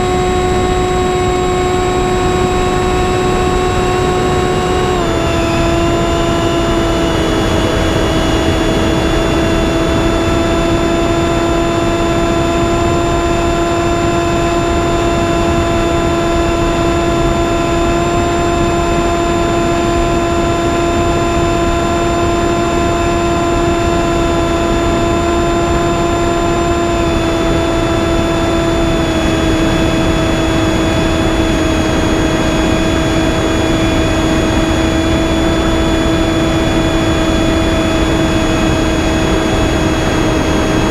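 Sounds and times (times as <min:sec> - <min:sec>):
electric motor and propeller whine: 0:00.0 - 0:40.9.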